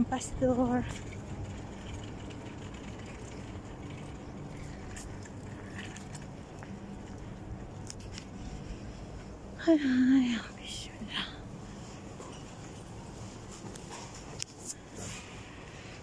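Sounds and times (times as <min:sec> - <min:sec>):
faint traffic: 0:00.0 - 0:16.0
low street rumble: 0:00.0 - 0:16.0.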